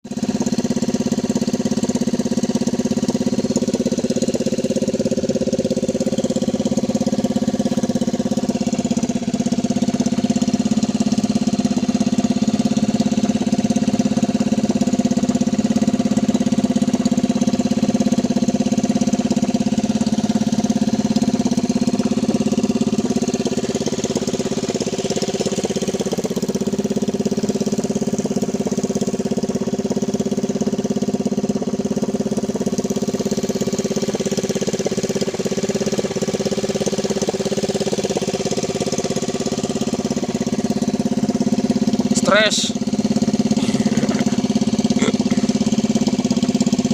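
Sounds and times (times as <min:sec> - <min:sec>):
boat engine running steadily: 0:00.0 - 0:46.9.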